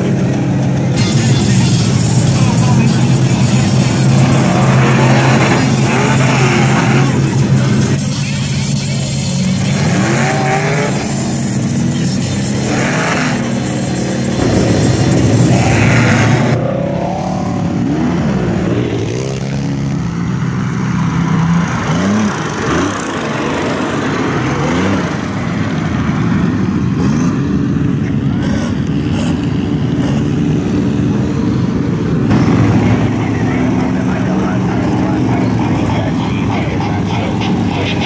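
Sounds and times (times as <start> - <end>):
off-road truck engines revving: 0.0 - 38.0.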